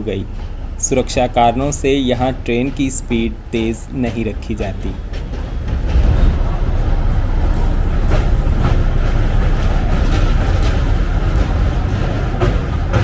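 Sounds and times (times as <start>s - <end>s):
train rumbling on bridge: 0.0s - 13.0s
wheels clacking: 0.0s - 13.0s.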